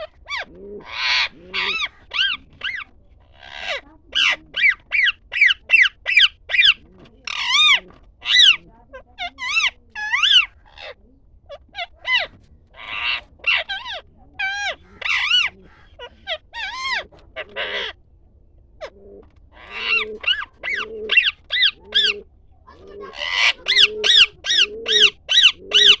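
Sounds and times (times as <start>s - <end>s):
birds squawking and whistling: 0.0s - 8.6s, 9.2s - 18.0s, 18.8s - 26.0s.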